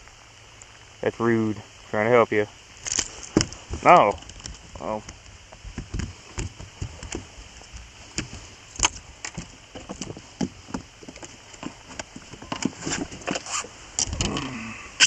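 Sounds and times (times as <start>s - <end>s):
rain pattering: 0.0s - 12.8s
raindrops tapping on microphone: 0.0s - 15.0s.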